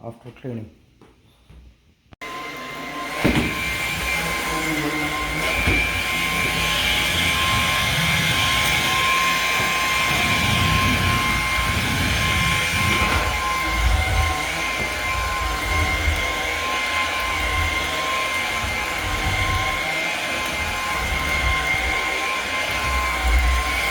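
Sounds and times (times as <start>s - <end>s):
vacuum cleaner running: 2.2s - 23.9s.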